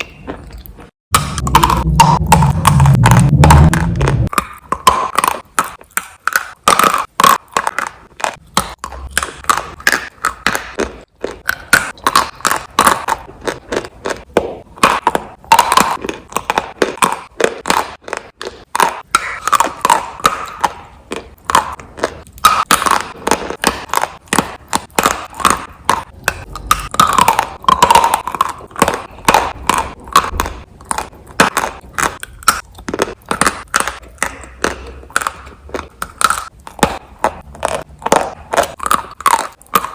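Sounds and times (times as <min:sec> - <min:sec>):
crunching and crackling: 0:00.0 - 0:39.9.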